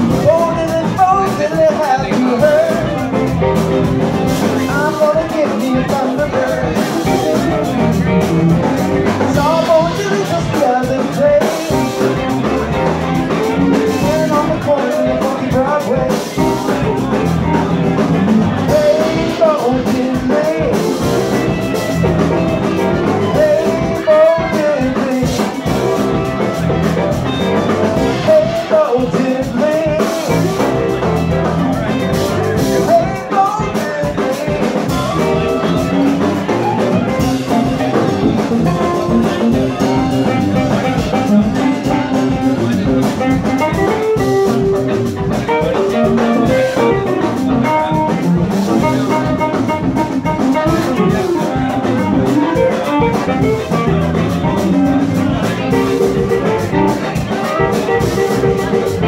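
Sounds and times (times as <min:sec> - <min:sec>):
live band playing blues-rock: 0:00.0 - 0:59.0.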